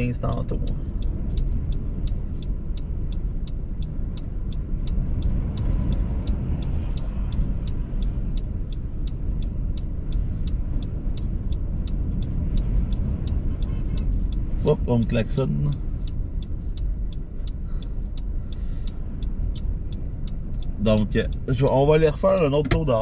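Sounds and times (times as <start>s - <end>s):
gusty wind buffeting car: 0.0s - 23.0s
light ticking: 0.0s - 23.0s.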